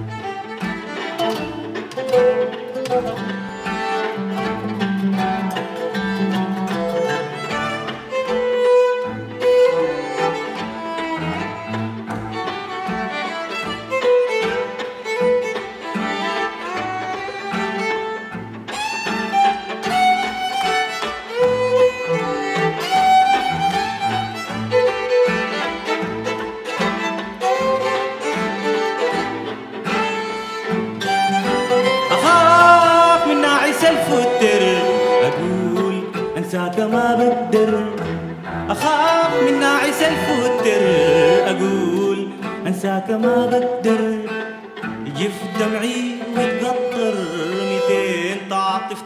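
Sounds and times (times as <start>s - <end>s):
string quartet with ouds: 0.0s - 49.0s.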